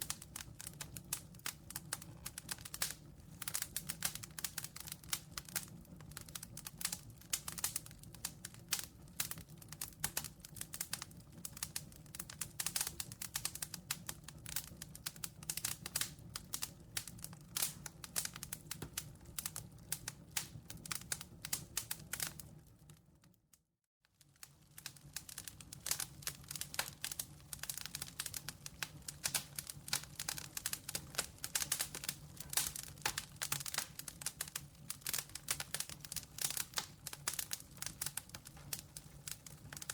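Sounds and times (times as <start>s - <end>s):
campfire crackling: 0.0s - 22.6s, 24.2s - 39.9s.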